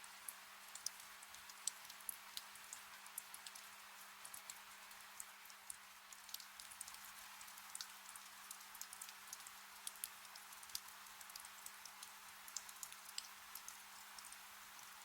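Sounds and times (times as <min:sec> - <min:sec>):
gentle rain hiss: 0:00.0 - 0:15.0
rain drops ticking: 0:00.0 - 0:15.0.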